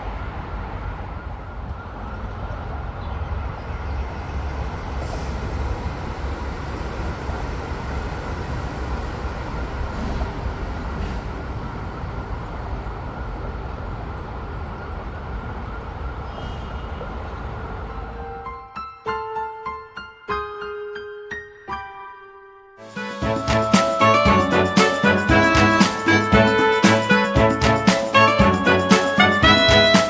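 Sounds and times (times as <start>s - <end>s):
high-speed train passing: 0.0s - 18.6s, 22.8s - 30.0s.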